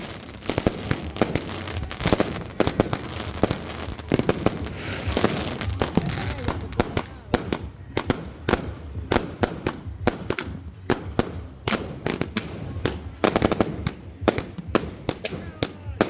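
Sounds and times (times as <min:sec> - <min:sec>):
fireworks and firecrackers banging: 0:00.0 - 0:16.0.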